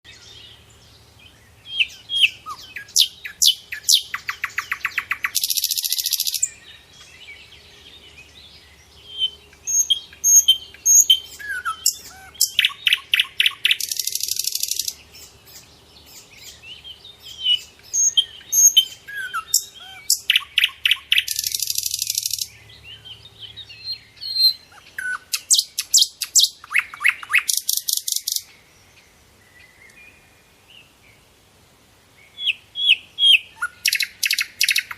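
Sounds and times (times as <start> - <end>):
small birds chirping: 0.0 - 31.4, 32.1 - 34.9.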